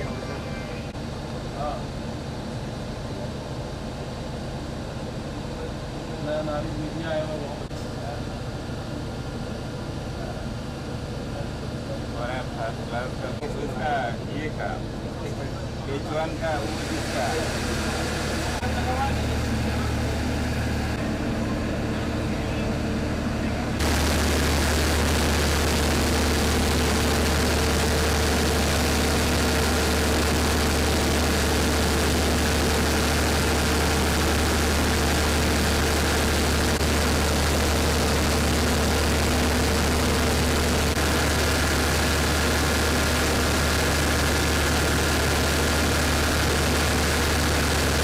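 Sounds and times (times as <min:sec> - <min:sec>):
diesel generator humming: 0:00.0 - 0:48.0
high steady whine: 0:00.0 - 0:48.0.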